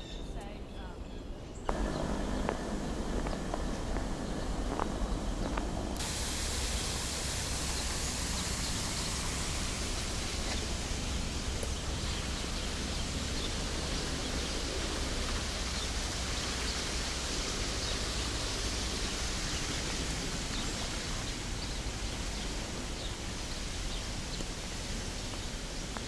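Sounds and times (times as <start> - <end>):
steady outdoor rushing noise: 1.7 - 26.0.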